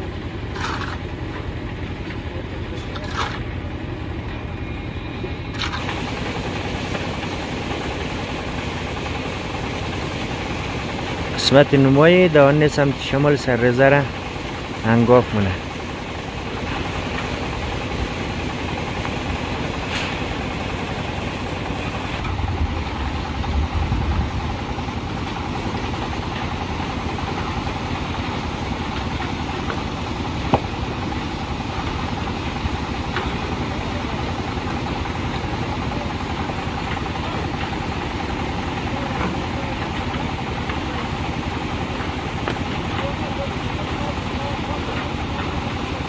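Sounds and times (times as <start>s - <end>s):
concrete mixer engine running: 0.0s - 46.0s.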